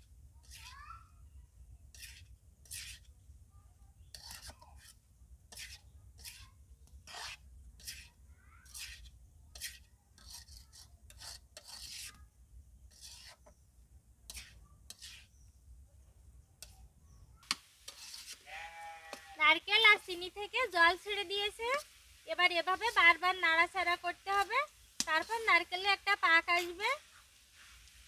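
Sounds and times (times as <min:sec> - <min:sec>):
spatula scraping in a pan: 0:00.0 - 0:00.8, 0:01.8 - 0:03.3, 0:04.0 - 0:13.6, 0:14.2 - 0:15.6, 0:16.6 - 0:28.0.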